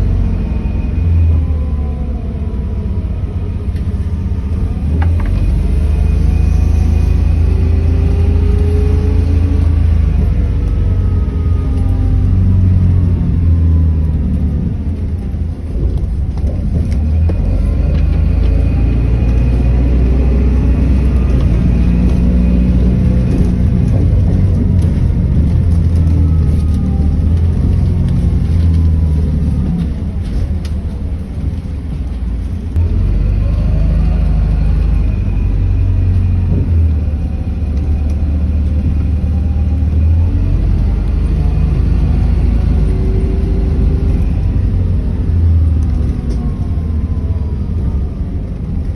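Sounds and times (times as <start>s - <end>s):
bus engine rumble: 0.0s - 48.9s.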